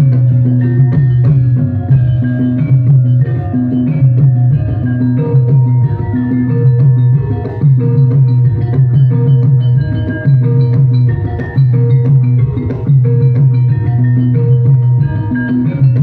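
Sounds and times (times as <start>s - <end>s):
drumming: 0.0s - 16.0s
gamelan music: 0.0s - 16.0s
struck metallophone notes: 0.0s - 16.0s.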